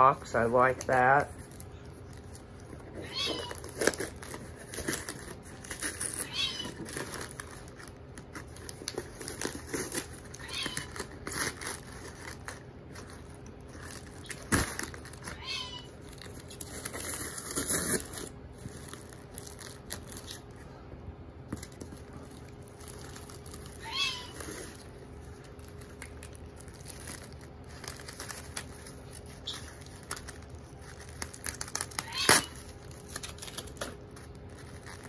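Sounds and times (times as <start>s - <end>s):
paper and plastic crinkling: 0.0s - 20.8s, 21.4s - 35.0s.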